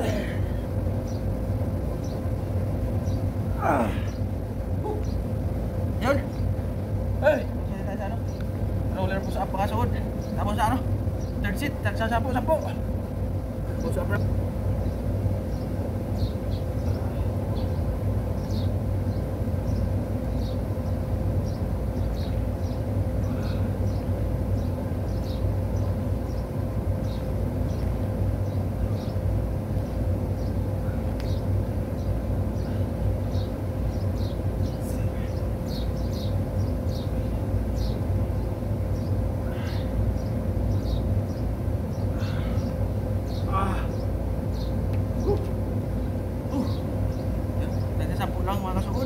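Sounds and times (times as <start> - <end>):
low machine hum: 0.0 - 49.0.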